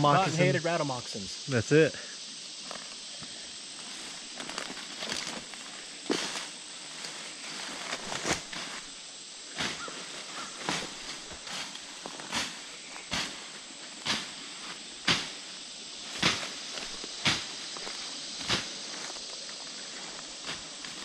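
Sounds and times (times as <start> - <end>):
leaves brushing against legs: 2.5 - 21.0
footsteps crunching through undergrowth: 3.8 - 21.0.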